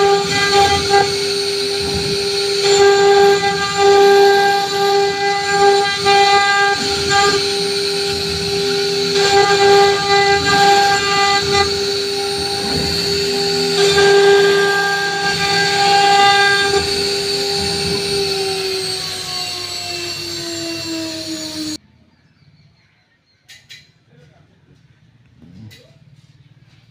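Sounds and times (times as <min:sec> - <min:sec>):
bit cutting into wood: 0:00.0 - 0:21.8
router spindle whining: 0:00.0 - 0:21.8.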